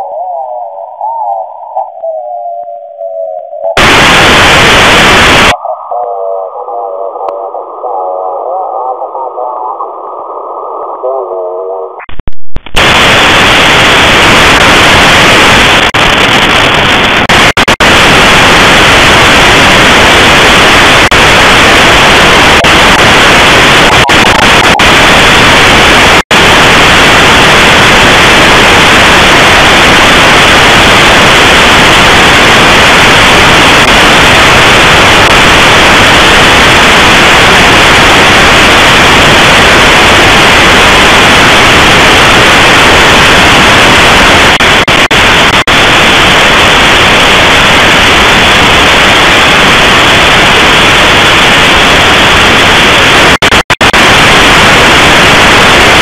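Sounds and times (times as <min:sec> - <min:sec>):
shortwave radio static: 0:00.0 - 0:56.0.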